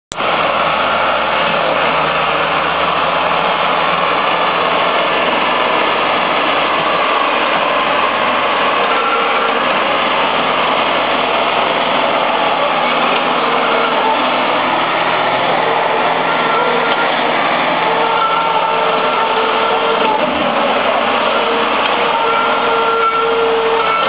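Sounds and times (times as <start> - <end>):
tractor engine under heavy load: 0.1 - 24.0.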